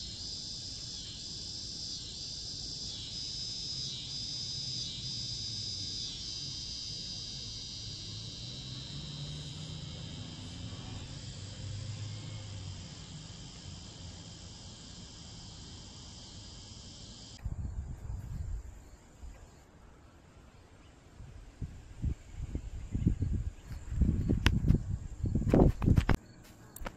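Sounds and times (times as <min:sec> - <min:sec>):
insects chirring: 0:00.0 - 0:19.7, 0:21.6 - 0:26.9.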